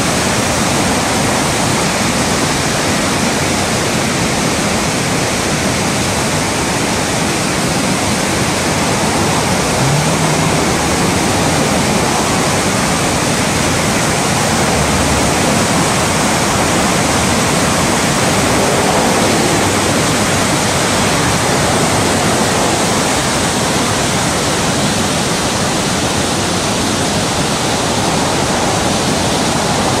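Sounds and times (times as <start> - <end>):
river rushing through rapids: 0.0 - 30.0.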